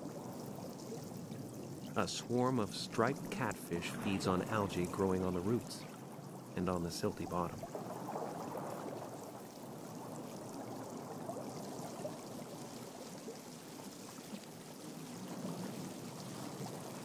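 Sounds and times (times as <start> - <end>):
underwater watery wash: 0.0 - 17.0.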